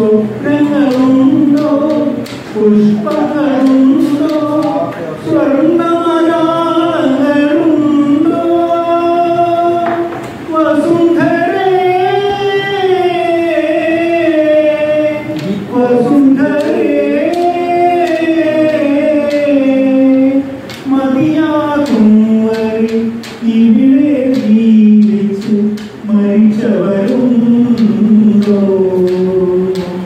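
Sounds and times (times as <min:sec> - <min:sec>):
man singing into microphone: 0:00.0 - 0:30.0.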